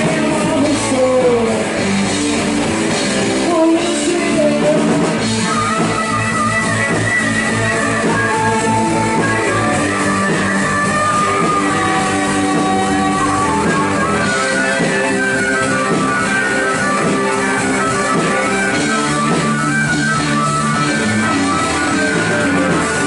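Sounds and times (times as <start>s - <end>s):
electric guitar lines: 0.0s - 23.0s
rock band playing: 0.0s - 23.0s.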